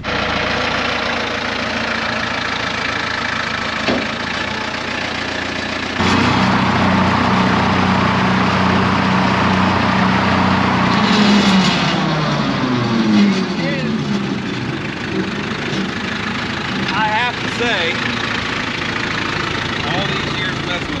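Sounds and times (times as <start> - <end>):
rotary cutter deep hum: 0.0 - 21.0
tractor diesel engine running: 0.0 - 21.0.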